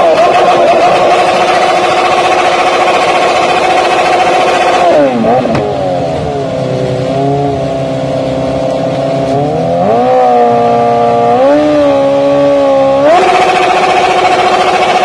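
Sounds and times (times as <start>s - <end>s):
rear tyre spinning: 0.0s - 6.0s, 9.0s - 15.0s
motorcycle engine revving high: 0.0s - 15.0s.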